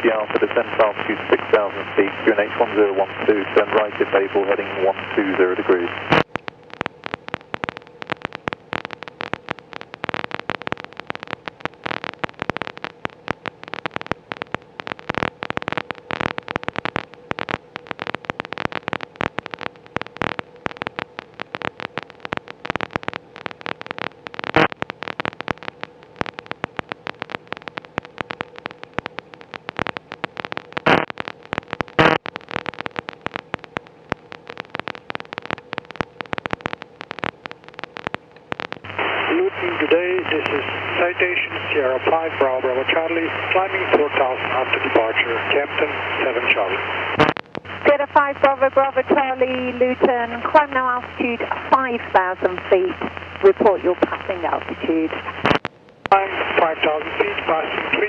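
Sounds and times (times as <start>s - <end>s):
radio static crackling: 0.0s - 58.0s.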